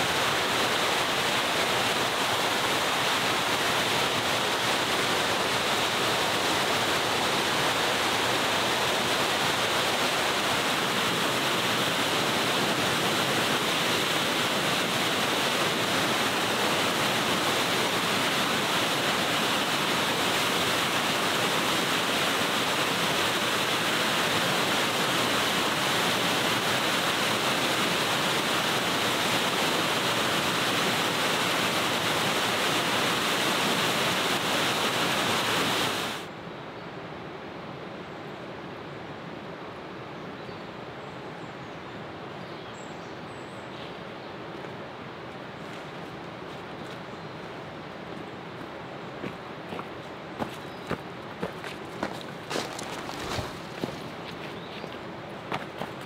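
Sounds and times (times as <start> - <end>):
rushing water: 0.0 - 36.4, 43.9 - 56.0.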